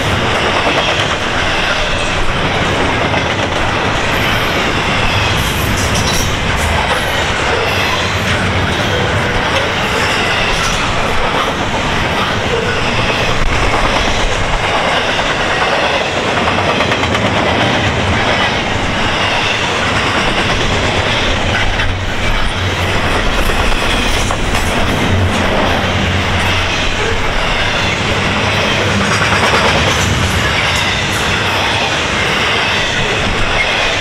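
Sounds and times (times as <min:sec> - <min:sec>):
train wheels running on rail: 0:00.0 - 0:34.0.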